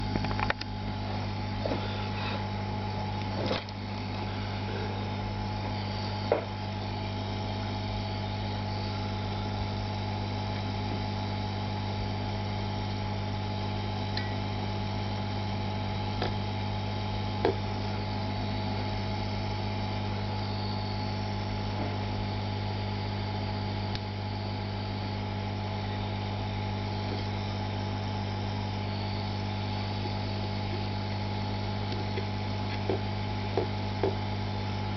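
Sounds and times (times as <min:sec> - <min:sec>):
hot-air blower humming: 0:00.0 - 0:34.9.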